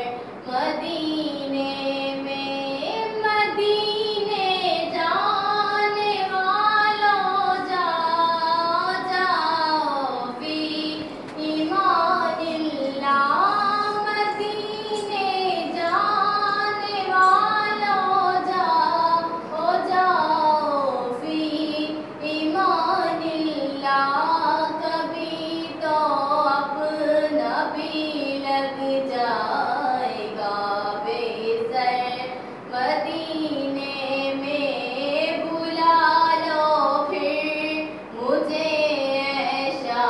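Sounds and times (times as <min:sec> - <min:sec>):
person singing devotional song: 0:00.0 - 0:40.0.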